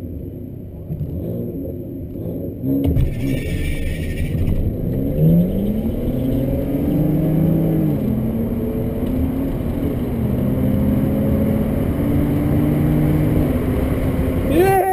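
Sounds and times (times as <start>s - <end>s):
car engine from inside cabin: 0.0s - 14.9s.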